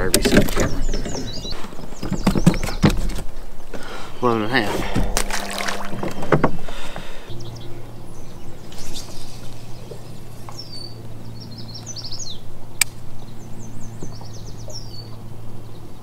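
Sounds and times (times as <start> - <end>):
songbird chirping: 0.0 - 16.0
steady low hum: 0.0 - 16.0.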